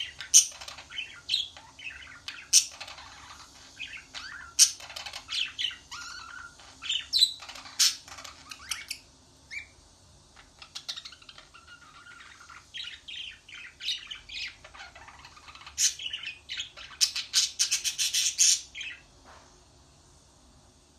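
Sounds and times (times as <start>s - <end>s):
bird chirping and squawking: 0.0s - 19.1s.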